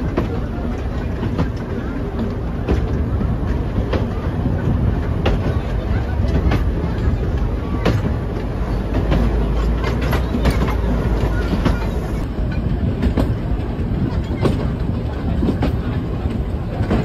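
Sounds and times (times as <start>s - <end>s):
train carriage rumbling: 0.0s - 17.0s
wheels clacking over rails: 0.0s - 17.0s.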